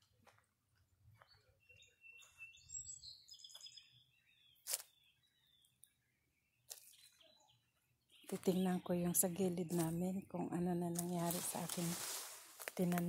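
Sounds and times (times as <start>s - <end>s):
small birds chirping: 0.8s - 13.0s.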